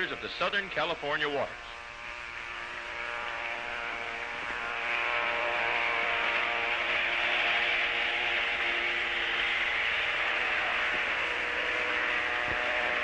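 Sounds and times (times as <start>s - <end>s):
boat wake rushing: 0.0s - 13.0s
motorboat engine running: 0.0s - 13.0s.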